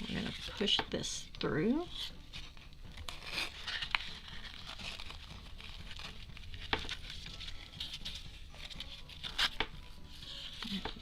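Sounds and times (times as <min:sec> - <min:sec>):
paper rustling: 0:01.9 - 0:11.0.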